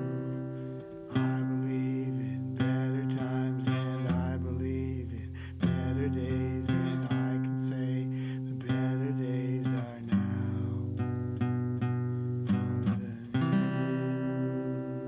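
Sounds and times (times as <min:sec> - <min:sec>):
wordless vocal: 0:00.0 - 0:11.0, 0:12.6 - 0:15.0
acoustic guitar strumming: 0:00.0 - 0:15.0.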